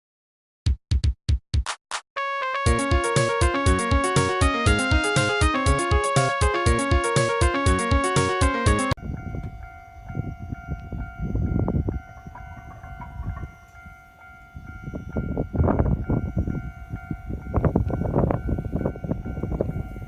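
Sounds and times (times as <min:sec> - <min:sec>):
level crossing alarm ringing: 0:02.2 - 0:20.0.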